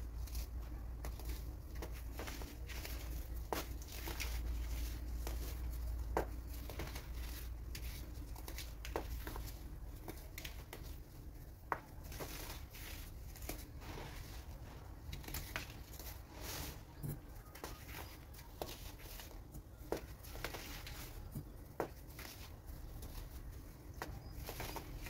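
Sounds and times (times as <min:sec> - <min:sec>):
baking soda crunching: 0:00.0 - 0:25.0.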